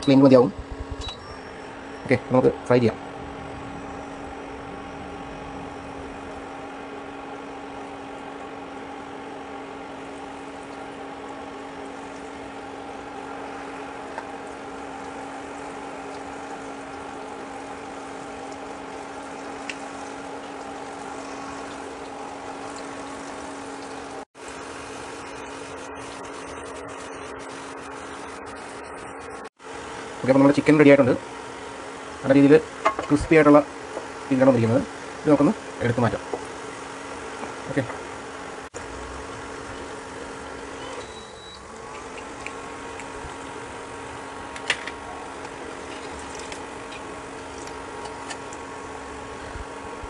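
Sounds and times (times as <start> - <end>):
cooktop hum: 0.0 - 50.0
chicken sizzling in hot oil: 4.0 - 50.0.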